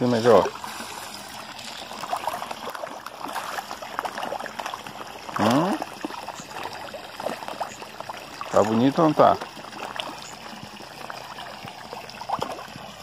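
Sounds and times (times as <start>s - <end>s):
fish splashing in a tank: 0.0s - 13.0s.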